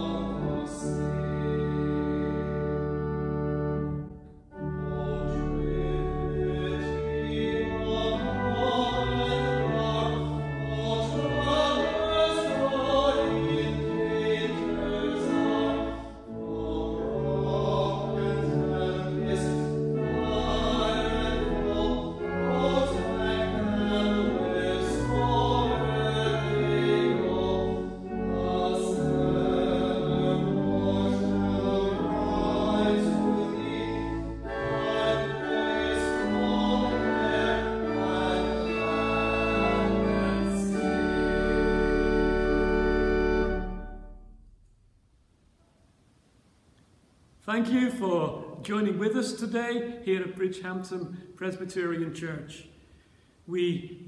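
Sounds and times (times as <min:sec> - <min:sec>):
choir singing with accompaniment: 0:00.0 - 0:44.2.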